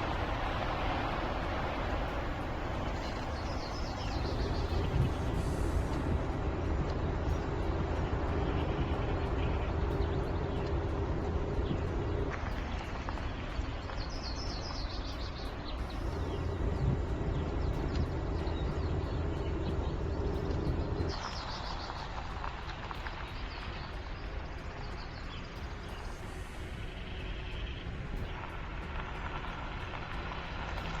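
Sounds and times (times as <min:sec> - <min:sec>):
birds chirping: 0:00.0 - 0:30.2
van tyres rumbling on road: 0:00.0 - 0:31.0.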